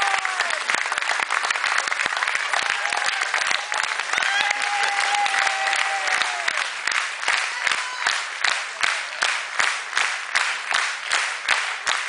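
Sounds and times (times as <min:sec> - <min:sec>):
audience applauding: 0:00.0 - 0:12.0
loud claps close by: 0:00.0 - 0:12.0.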